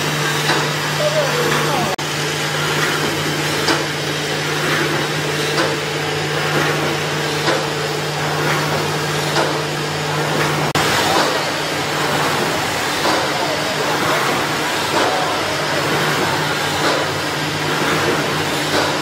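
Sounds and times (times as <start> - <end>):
welding machine electrical hum: 0.0 - 19.0.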